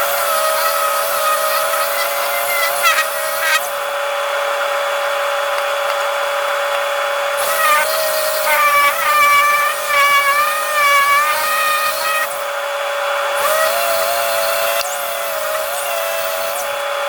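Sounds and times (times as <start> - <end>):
power tool whine: 0.0 - 17.0.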